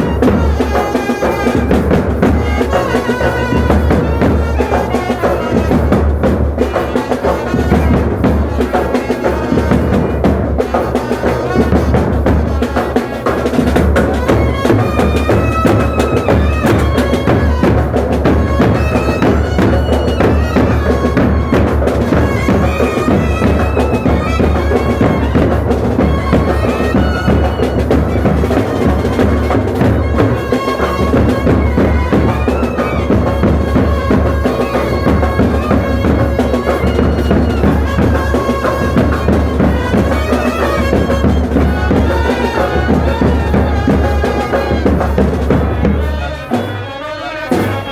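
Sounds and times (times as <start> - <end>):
loud drumming: 0.0 - 47.9
reedy wind instrument melody: 0.0 - 47.9.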